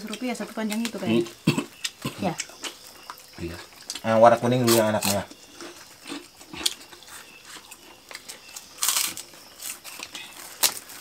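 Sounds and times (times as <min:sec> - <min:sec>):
soft chewing and mouth clicks: 0:00.0 - 0:11.0.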